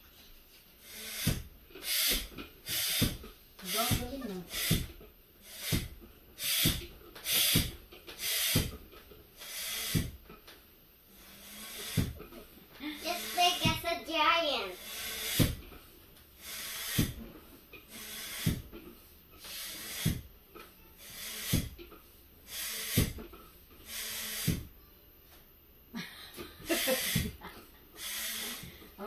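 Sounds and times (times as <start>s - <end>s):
hand balloon pump strokes: 0.1s - 24.8s, 26.3s - 29.0s.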